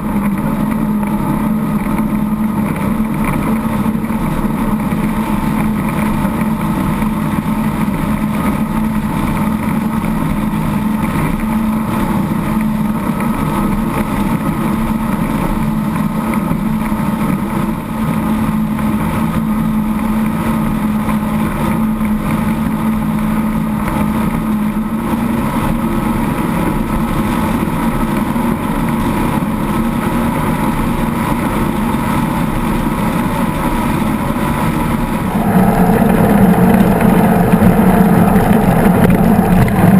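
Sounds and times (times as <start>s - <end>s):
powerboat engines droning: 0.0s - 39.9s
rushing wind and water: 0.0s - 39.9s.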